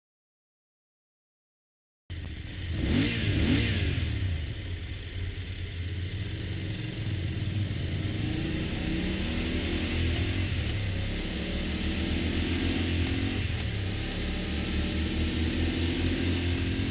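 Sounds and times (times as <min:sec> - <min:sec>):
motorcycle engine idling: 0:02.1 - 0:16.9.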